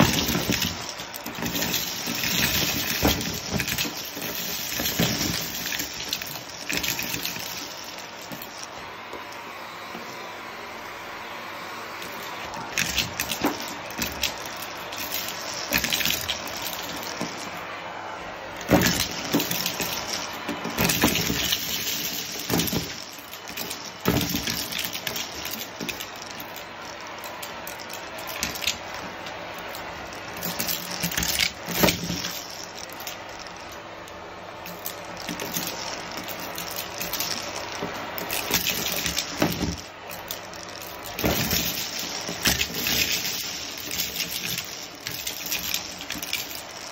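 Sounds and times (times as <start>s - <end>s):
debris clattering through tube: 0.0s - 8.8s, 12.4s - 17.7s, 18.5s - 46.9s
vacuum cleaner running: 0.0s - 46.9s.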